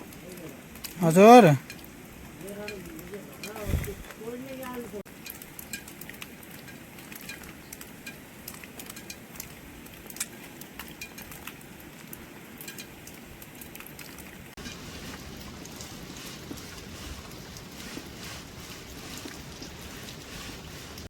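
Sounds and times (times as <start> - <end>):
sharp drips and taps: 0.0 - 3.6, 4.6 - 18.3
rain hiss: 0.0 - 21.0.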